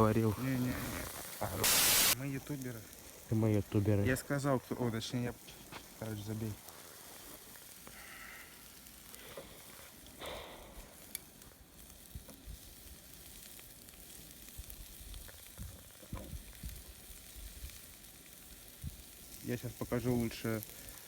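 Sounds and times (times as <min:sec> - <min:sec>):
meat sizzling over fire: 0:00.0 - 0:21.0.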